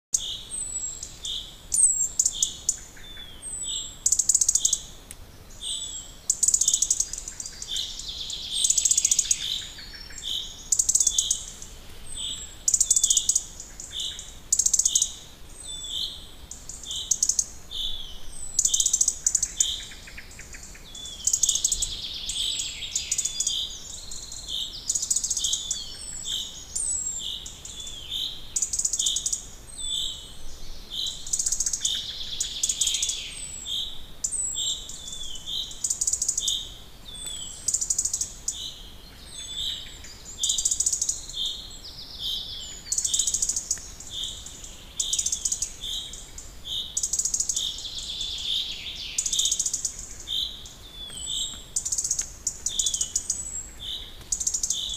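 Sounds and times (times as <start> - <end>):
high bird trilling song: 0.2 - 4.9, 5.6 - 30.3, 30.9 - 54.9.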